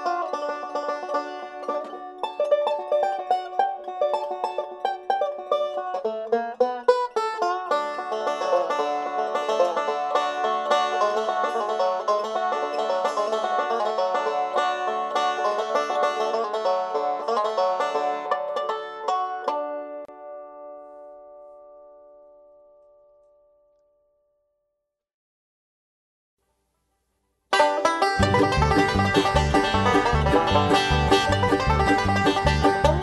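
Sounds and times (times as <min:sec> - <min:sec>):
banjo picking: 0:00.0 - 0:21.3, 0:27.5 - 0:33.0.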